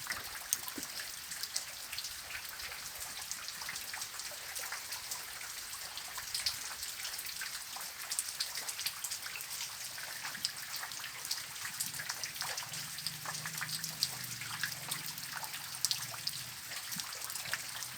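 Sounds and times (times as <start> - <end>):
water trickling: 0.0 - 17.9.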